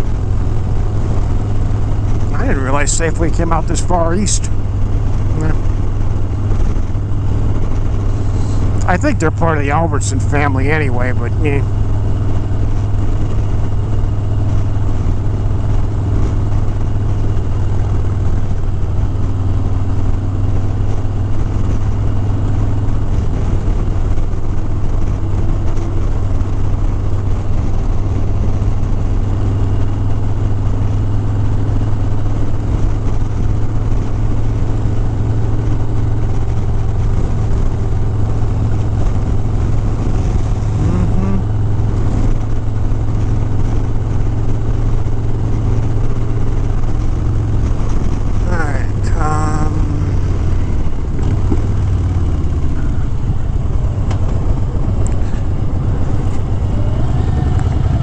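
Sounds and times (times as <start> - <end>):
motorcycle engine drone: 0.0 - 58.0
wind and road noise: 0.0 - 58.0.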